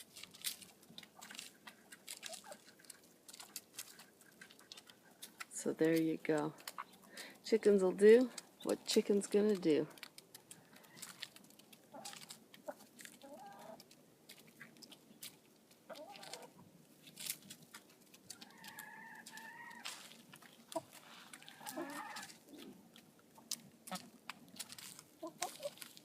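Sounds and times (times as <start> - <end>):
hens clucking: 0.9 - 16.7, 17.5 - 26.0.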